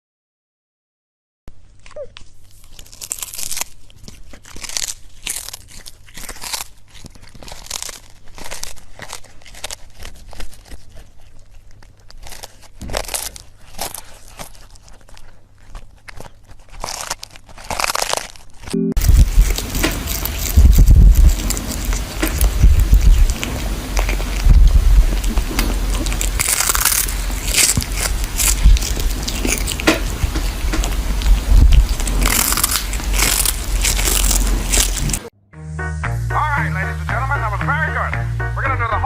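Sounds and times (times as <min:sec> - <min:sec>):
crunching and crinkling: 0:01.5 - 0:35.3.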